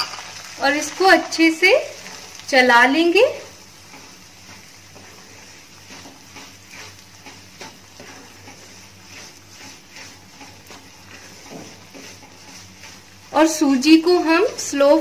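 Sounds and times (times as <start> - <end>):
spatula scraping a pan: 0.0 - 2.4, 3.4 - 15.0
light sizzle: 0.0 - 15.0.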